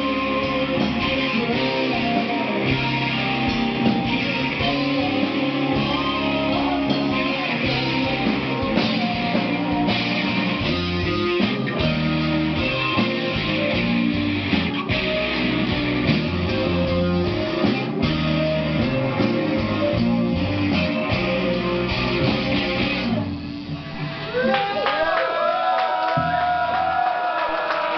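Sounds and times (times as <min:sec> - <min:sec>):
electric guitar chords: 0:00.0 - 0:24.8
drum kit: 0:00.0 - 0:25.1.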